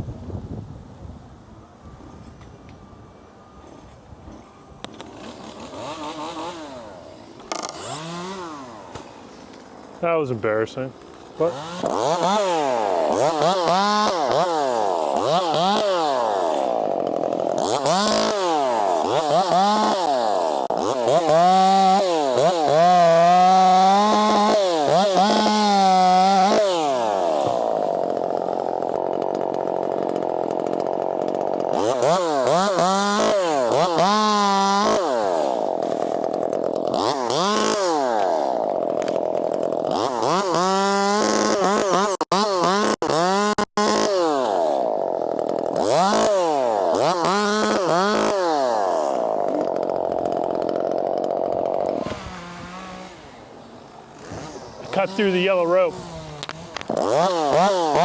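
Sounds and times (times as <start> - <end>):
chainsaw revving: 4.9 - 10.0, 11.0 - 58.0.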